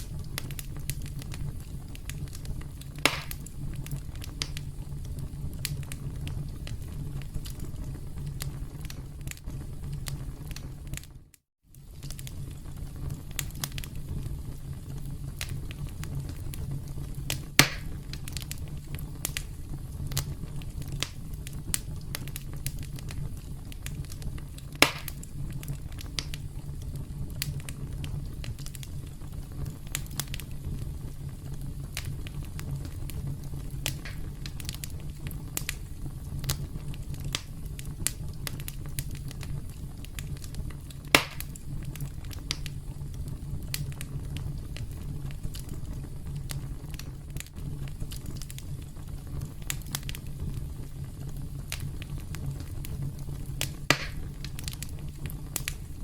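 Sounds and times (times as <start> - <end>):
campfire crackling: 0.0 - 56.0
loud fire pops: 0.0 - 56.0.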